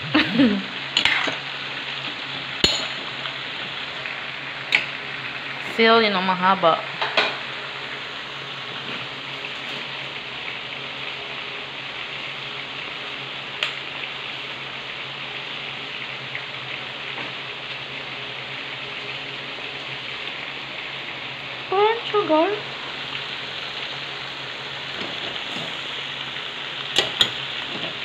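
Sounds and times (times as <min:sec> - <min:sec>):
liquid simmering and sizzling in a pot: 0:00.0 - 0:28.0.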